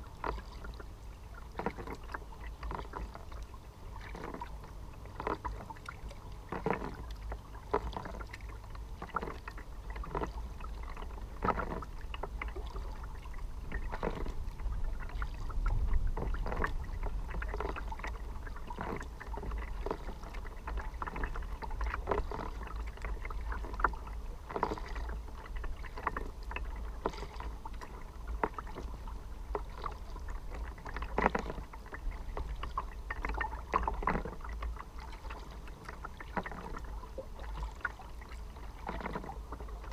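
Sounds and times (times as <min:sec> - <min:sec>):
low steady rumble: 0:00.0 - 0:39.9
paddle strokes dipping and dripping: 0:00.0 - 0:39.9
water slapping at a hull: 0:00.0 - 0:39.9.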